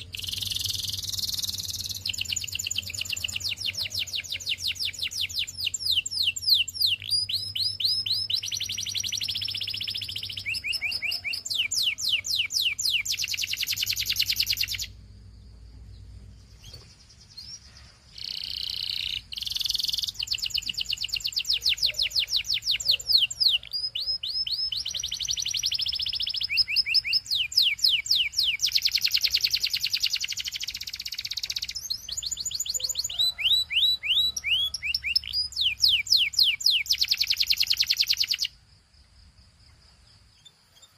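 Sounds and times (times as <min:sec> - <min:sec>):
canary singing trills: 0:00.0 - 0:38.6.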